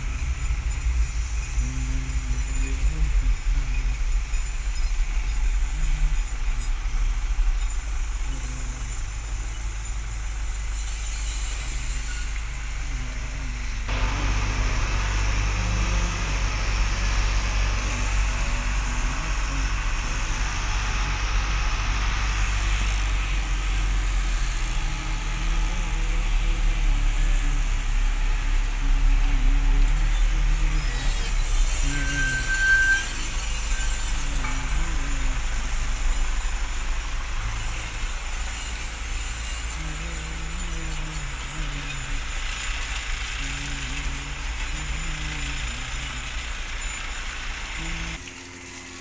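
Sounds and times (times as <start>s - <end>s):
road noise hiss: 0.0s - 49.0s
truck engine rumble: 0.0s - 49.0s.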